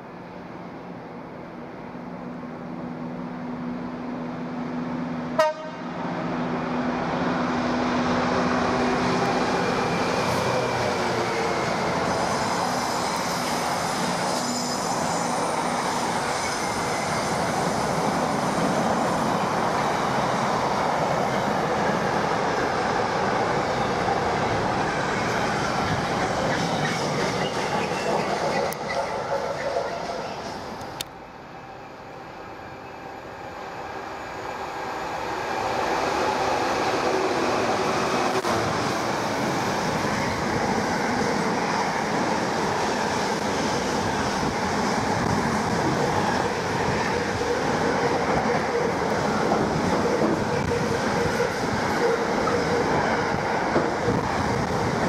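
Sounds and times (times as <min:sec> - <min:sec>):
train wheels rumbling on rail: 0:01.5 - 0:31.2, 0:34.1 - 0:55.0.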